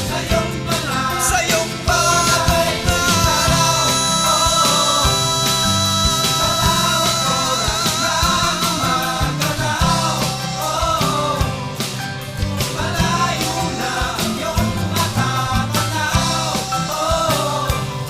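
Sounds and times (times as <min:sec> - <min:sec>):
pop-rock song with singing: 0:00.0 - 0:18.0.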